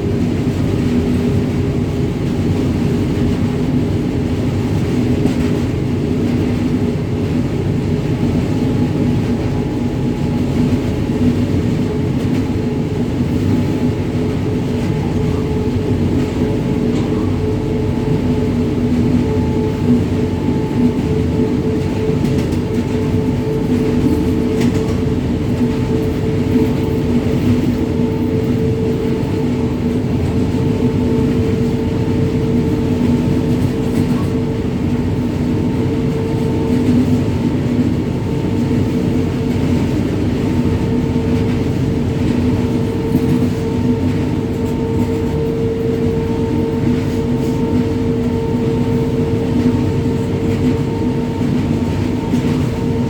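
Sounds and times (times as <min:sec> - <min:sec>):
electric locomotive hum: 0:00.0 - 0:53.0
rumbling wheel and track noise: 0:00.0 - 0:53.0.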